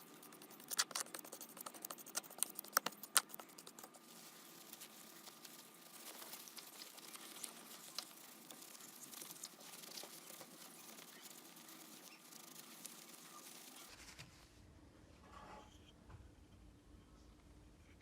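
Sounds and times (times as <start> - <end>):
faint scratching with small clicks: 0.0 - 14.5.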